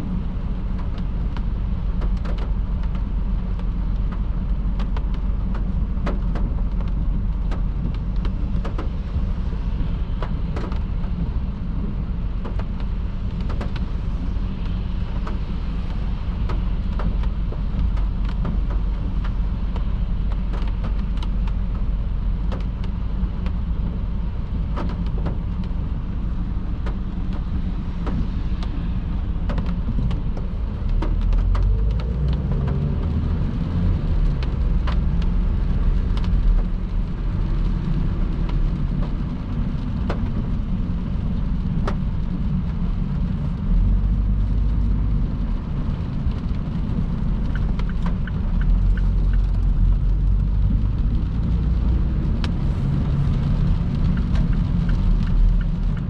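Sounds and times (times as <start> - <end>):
car tyres rumbling on wet road: 0.0 - 56.0
heavy rain: 0.0 - 56.0
sharp raindrop ticks: 0.1 - 56.0.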